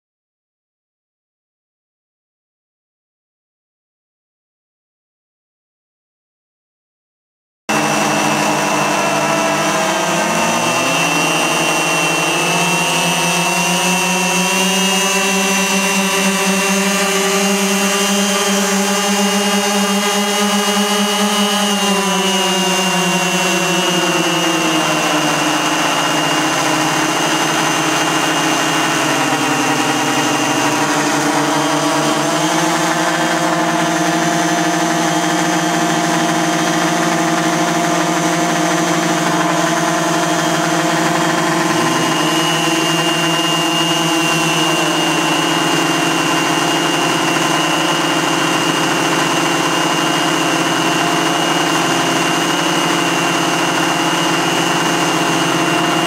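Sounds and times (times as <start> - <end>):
model piston engines idling: 7.7 - 56.0.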